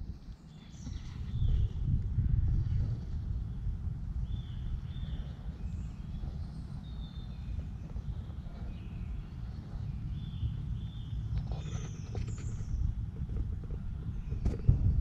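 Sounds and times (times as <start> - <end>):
birds singing: 0.0 - 1.9, 2.7 - 15.0
steady low rumble: 0.0 - 15.0.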